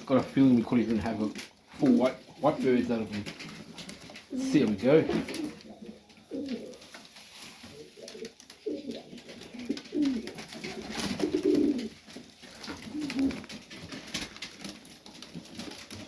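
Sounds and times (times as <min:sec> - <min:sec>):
birds rustling and clicking: 0:00.0 - 0:16.0
pigeons cooing: 0:00.0 - 0:16.0.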